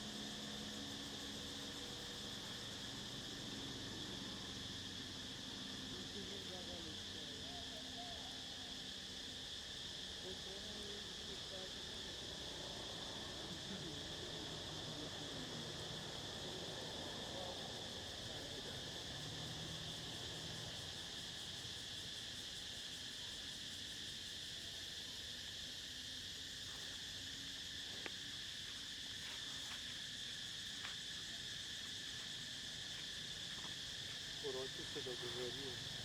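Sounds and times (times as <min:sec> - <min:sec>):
insect chorus chirring: 0:00.0 - 0:36.0.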